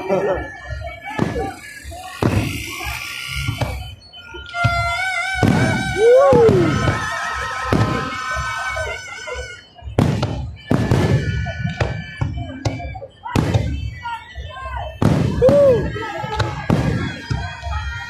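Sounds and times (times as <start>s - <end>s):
fireworks banging: 0.0s - 18.0s
high firework whistles: 0.1s - 18.0s.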